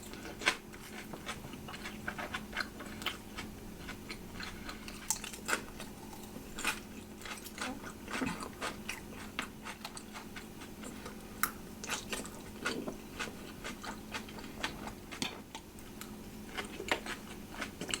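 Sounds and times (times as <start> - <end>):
faint steady hum: 0.0 - 18.0
person chewing food: 0.0 - 18.0.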